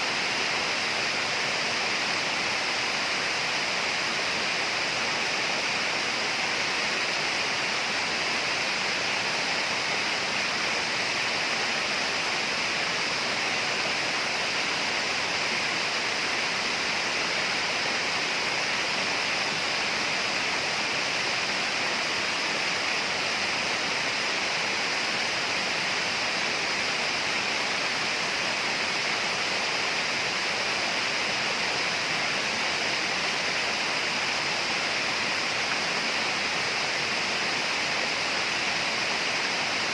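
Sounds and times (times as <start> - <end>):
rainforest rushing hiss: 0.0 - 39.9.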